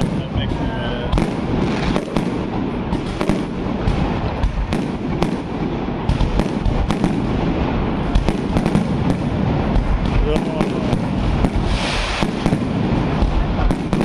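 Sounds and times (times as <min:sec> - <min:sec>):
continuous low rumble: 0:00.0 - 0:14.0
fireworks bangs and crackles: 0:00.0 - 0:14.0.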